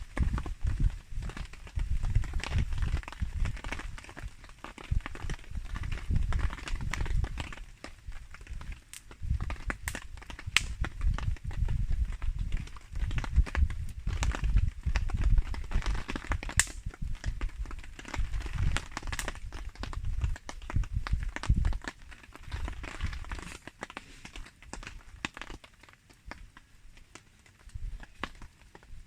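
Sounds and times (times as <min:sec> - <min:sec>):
campfire crackling and popping: 0:00.0 - 0:29.0
rain falling: 0:00.0 - 0:29.0.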